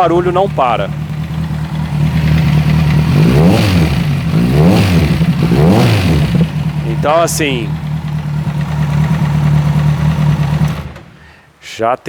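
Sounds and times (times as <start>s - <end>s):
engine revving: 0.0s - 11.3s
motorcycle engine idling: 0.0s - 11.6s.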